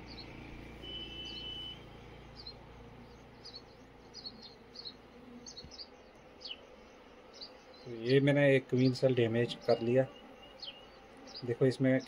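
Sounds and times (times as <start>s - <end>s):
bees humming: 0.0s - 12.0s
birds chirping: 0.0s - 12.0s.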